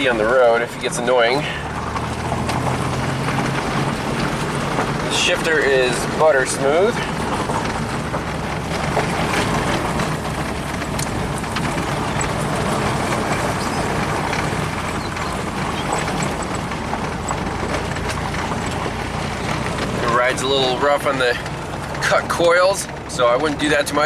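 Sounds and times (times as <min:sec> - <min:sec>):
car engine running: 0:00.0 - 0:24.0
road and tyre noise: 0:00.0 - 0:24.0.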